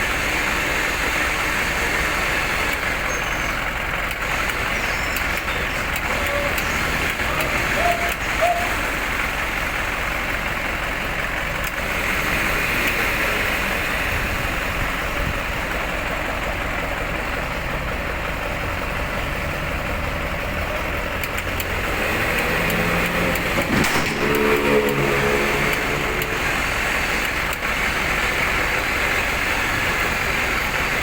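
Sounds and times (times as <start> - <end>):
road noise hiss: 0.0 - 31.0
vehicle engine running: 0.0 - 31.0.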